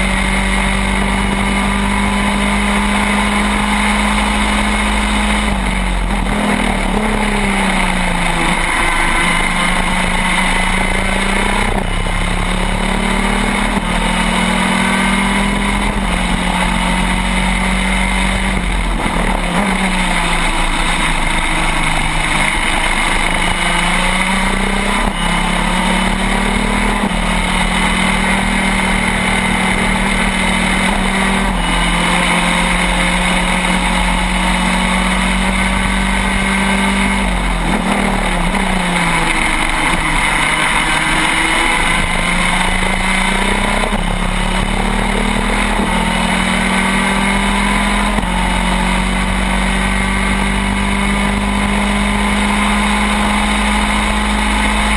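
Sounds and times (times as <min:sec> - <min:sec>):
two-stroke kart engine racing: 0:00.0 - 0:54.9.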